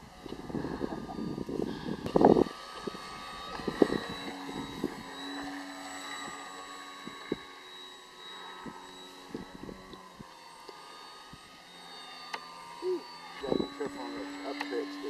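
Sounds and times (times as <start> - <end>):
electric propeller whining: 0.0 - 15.0.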